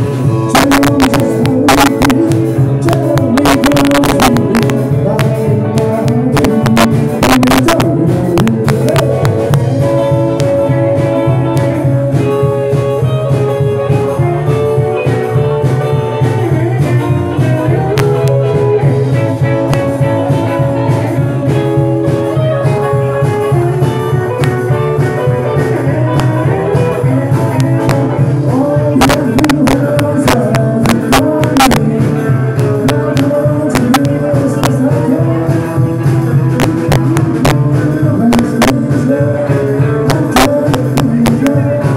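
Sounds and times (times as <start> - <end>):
bass line: 0.0 - 41.9
drum kit: 0.0 - 41.9
electric guitars: 0.0 - 41.9.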